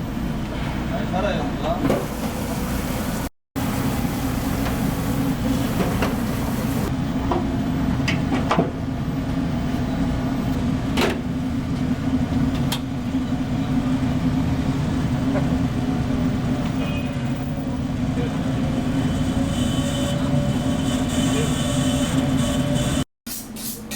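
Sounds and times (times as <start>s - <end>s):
low mechanical hum: 0.0s - 23.9s.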